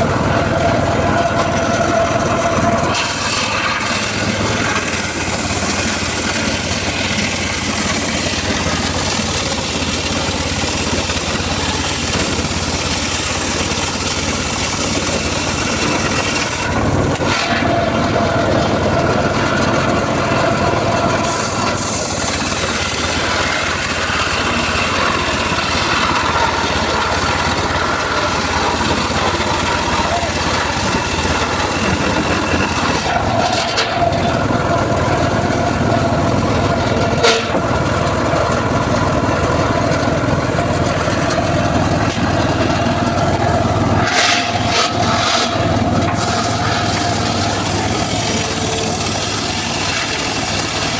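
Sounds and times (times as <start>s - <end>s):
circular saw cutting wood: 0.0s - 50.9s.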